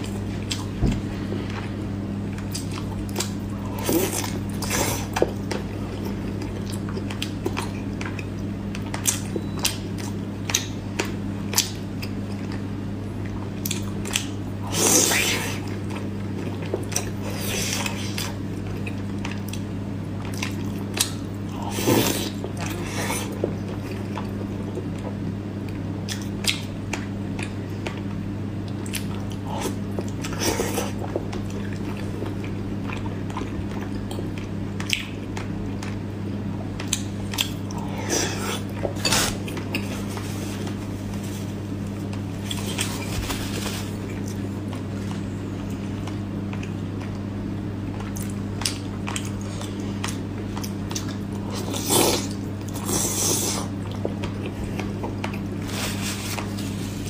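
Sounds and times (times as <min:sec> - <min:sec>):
person eating and chewing: 0:00.0 - 0:36.0, 0:36.7 - 0:57.0.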